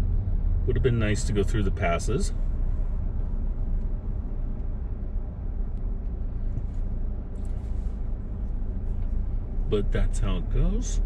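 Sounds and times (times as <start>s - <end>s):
car engine rumble from inside cabin: 0.0s - 11.0s.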